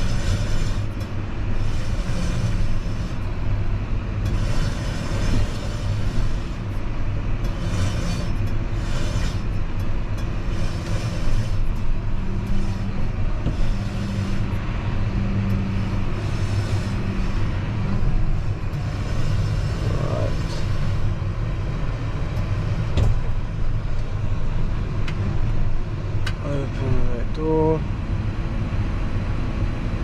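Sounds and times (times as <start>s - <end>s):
tractor engine rumbling: 0.0s - 30.0s.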